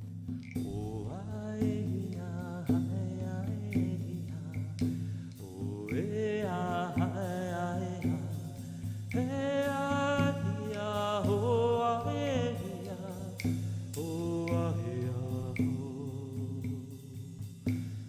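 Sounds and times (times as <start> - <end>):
frame drum beats: 0.0 - 18.0
man singing wordless chant: 0.6 - 17.8.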